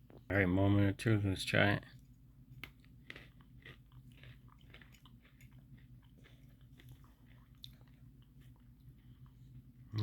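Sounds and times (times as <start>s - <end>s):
low steady hum: 0.0s - 10.0s
chewing crunchy biscuit sticks: 1.8s - 10.0s.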